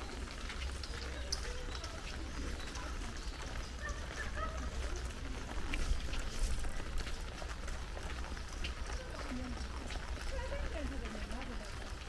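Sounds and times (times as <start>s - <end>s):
footsteps on wet dirt path: 0.0s - 12.0s
raindrops tapping: 0.0s - 12.0s.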